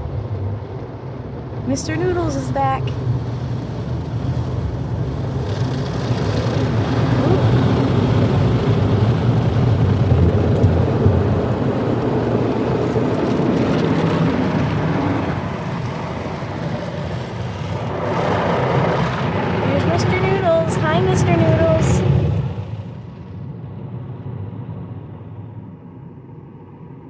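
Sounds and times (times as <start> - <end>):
wash machinery rumbling: 0.4 - 22.2.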